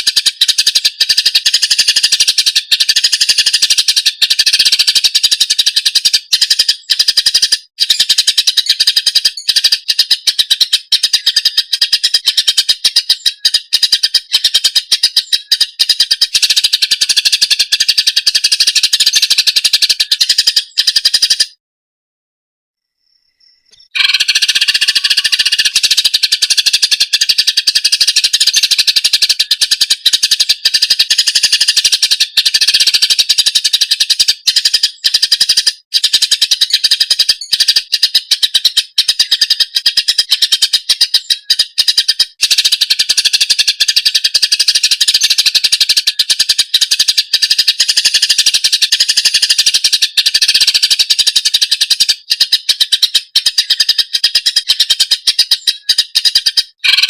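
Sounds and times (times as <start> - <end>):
bird chirping and trilling: 0.0 - 21.6, 22.8 - 57.0.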